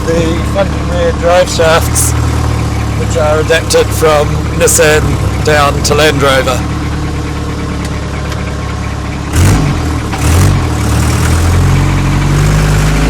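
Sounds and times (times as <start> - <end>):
diesel engine running: 0.0 - 13.0
engine revving bursts: 0.0 - 13.0.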